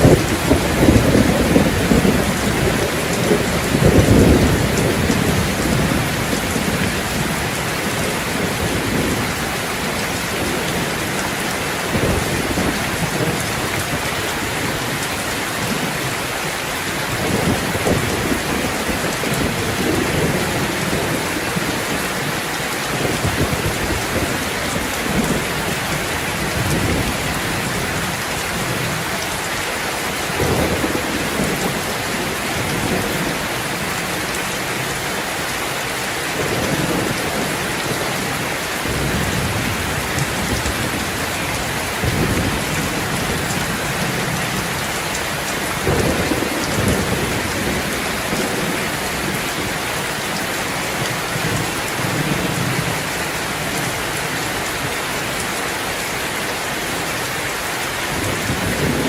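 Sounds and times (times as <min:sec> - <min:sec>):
heavy rain splashing: 0:00.0 - 0:59.0.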